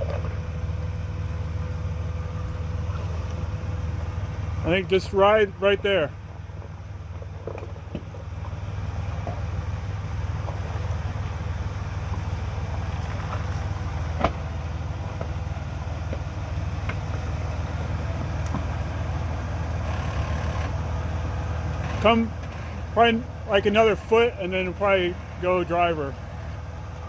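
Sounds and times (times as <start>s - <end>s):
car engine running slowly: 0.0s - 27.0s.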